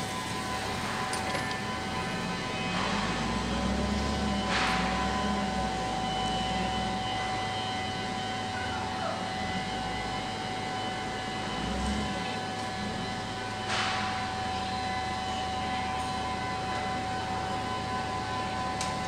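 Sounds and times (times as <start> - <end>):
diesel engine running: 0.0 - 19.0
steady high tone: 0.0 - 19.0.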